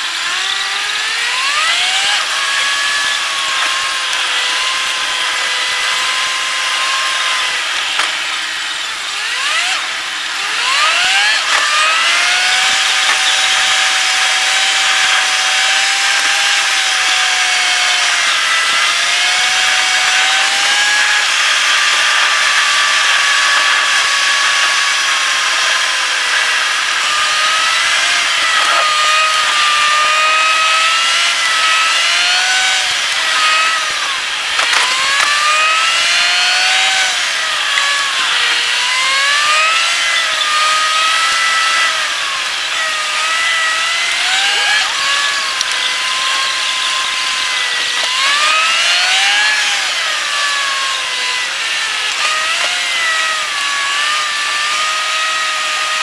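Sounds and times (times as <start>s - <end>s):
road and tyre noise: 0.0s - 50.3s
car engine revving: 0.0s - 54.5s.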